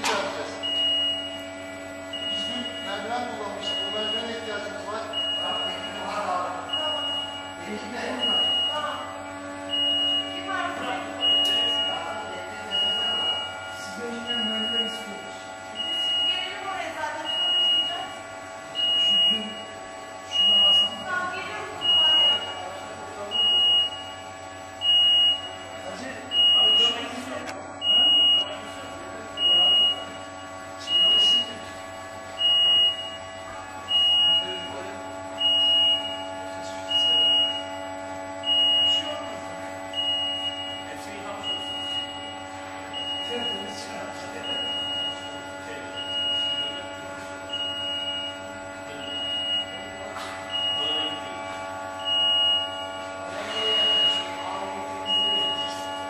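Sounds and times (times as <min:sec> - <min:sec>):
high-pitched warning beeps: 0:00.0 - 0:31.7, 0:32.4 - 0:33.3, 0:33.9 - 0:56.0
steady hum: 0:00.0 - 0:56.0.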